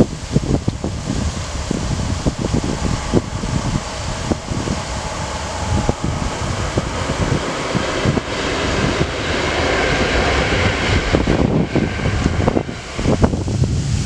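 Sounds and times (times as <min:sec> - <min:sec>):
electric train running past: 0:00.0 - 0:14.0
wind buffeting the microphone: 0:00.0 - 0:14.0.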